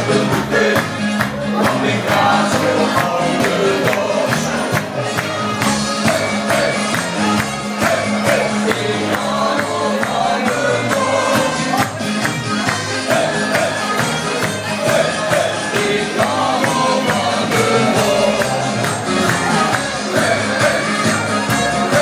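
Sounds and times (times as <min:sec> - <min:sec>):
men singing into microphones: 0:00.0 - 0:07.0, 0:07.7 - 0:11.8, 0:13.0 - 0:22.0
upbeat party music: 0:00.0 - 0:22.0.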